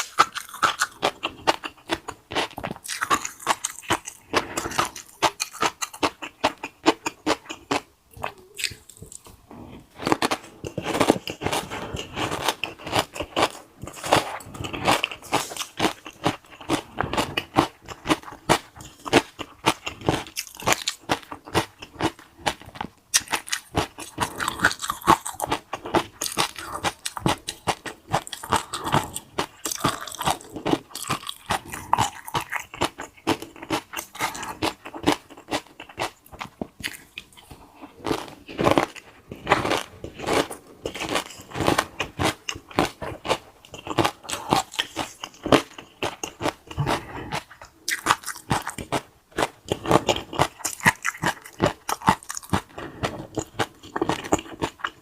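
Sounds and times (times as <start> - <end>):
crunchy food chewing: 0.0 - 55.0.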